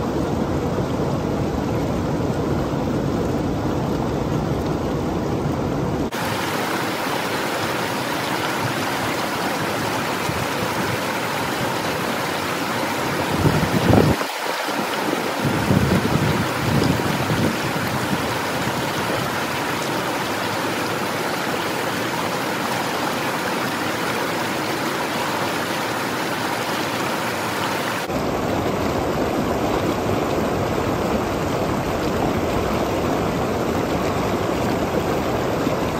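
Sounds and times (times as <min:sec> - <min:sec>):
stream water rushing over stone: 0:00.0 - 0:35.9.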